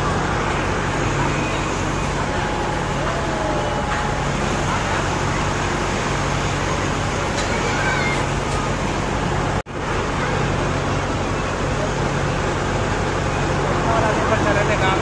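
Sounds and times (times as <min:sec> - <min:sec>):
crowd noise: 0:00.0 - 0:15.0
ride machinery humming: 0:00.0 - 0:15.0.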